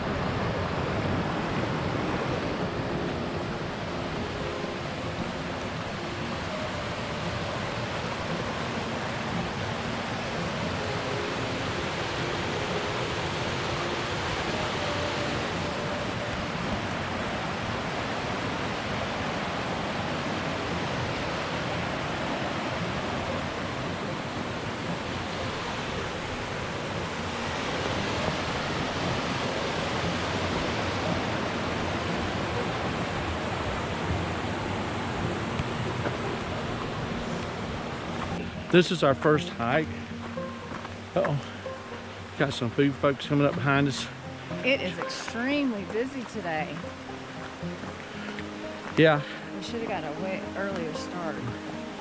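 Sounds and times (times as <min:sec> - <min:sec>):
mountain creek rushing: 0:00.0 - 0:52.0.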